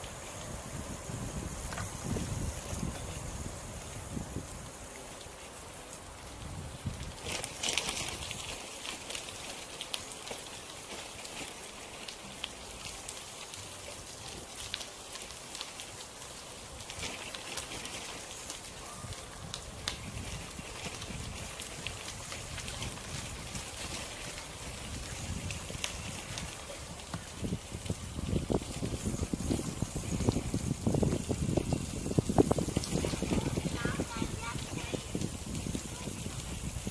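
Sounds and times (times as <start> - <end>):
bicycle tyres on gravel: 0.0 - 36.9.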